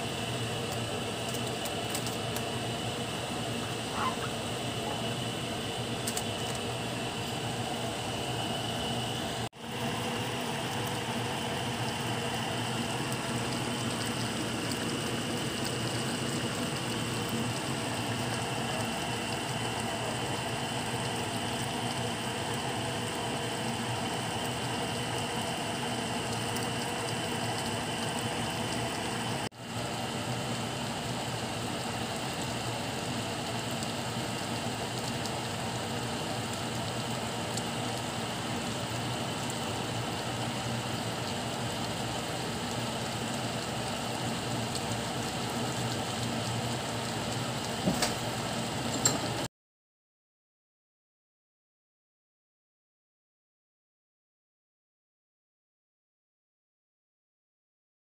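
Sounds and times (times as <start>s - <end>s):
stew bubbling and crackling: 0.0s - 49.5s.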